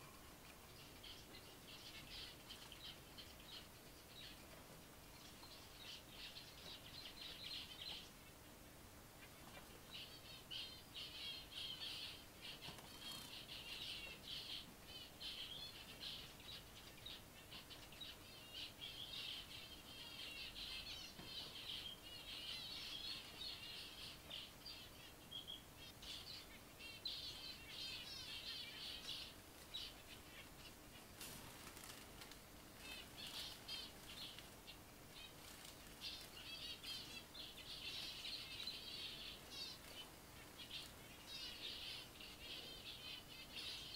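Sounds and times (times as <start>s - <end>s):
finches chirping: 0.0s - 43.9s.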